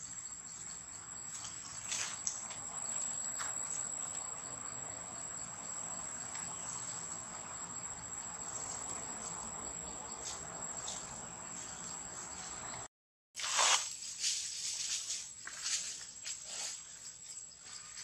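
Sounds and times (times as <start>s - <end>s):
insects droning: 0.0s - 12.9s, 13.5s - 18.0s.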